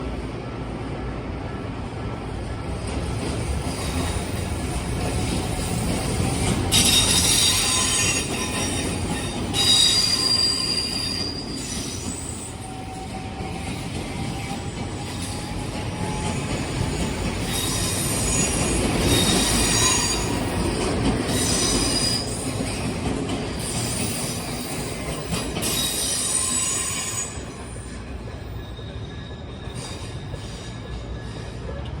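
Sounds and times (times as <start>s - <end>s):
train rumble: 0.0s - 32.0s
train wheels squealing: 3.0s - 32.0s.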